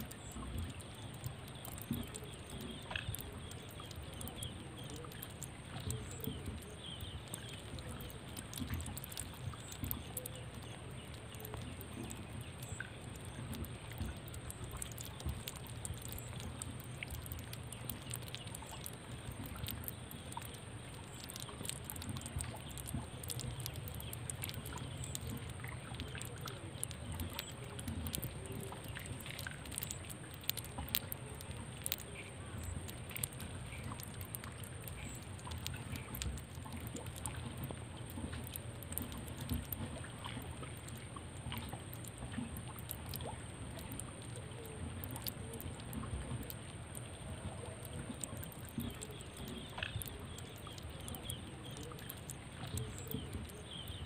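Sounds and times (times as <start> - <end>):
faint clicks and crackles: 0.0 - 54.0.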